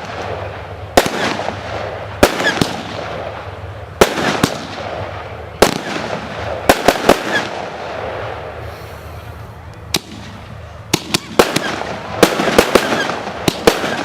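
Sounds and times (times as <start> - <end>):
firework shots: 0.0 - 14.0
hissing crackling: 0.0 - 14.0.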